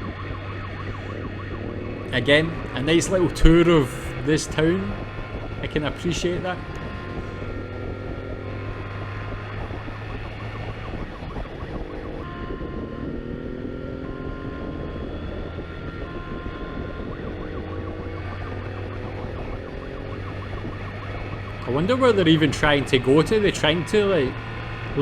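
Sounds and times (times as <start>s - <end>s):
motorcycle engine accelerating: 0.0s - 25.0s
police siren: 0.0s - 25.0s.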